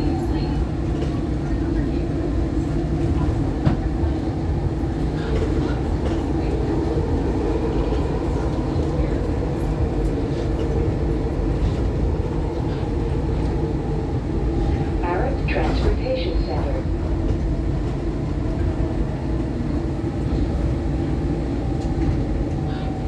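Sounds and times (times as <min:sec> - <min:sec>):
subway train rumbling on rails: 0:00.0 - 0:23.0.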